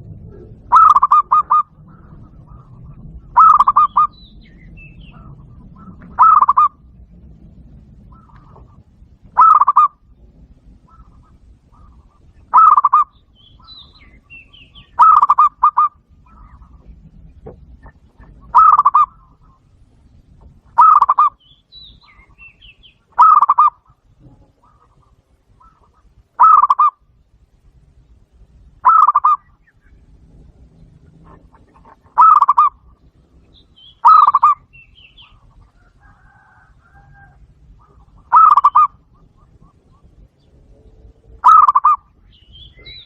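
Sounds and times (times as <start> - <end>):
dove trilling coos: 0.0 - 27.2, 28.7 - 43.0.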